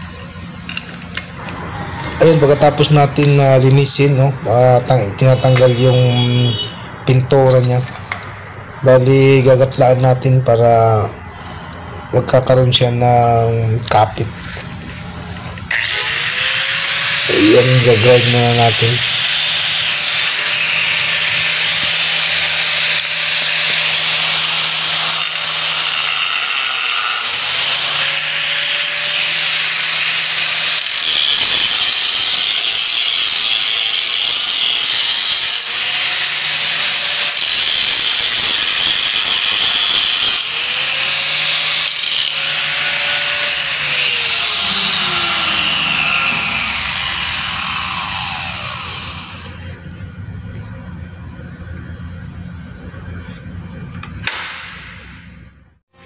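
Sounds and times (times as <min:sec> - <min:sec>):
angle grinder grinding metal: 0:00.0 - 0:08.4, 0:13.3 - 0:49.8.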